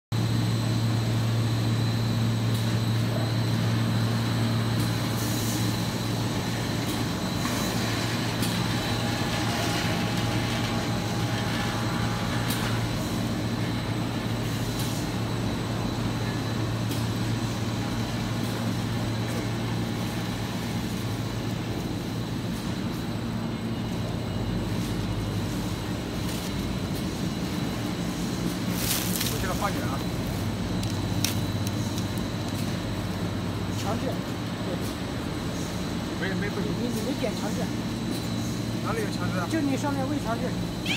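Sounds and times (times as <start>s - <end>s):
low machine hum: 0.1s - 40.9s.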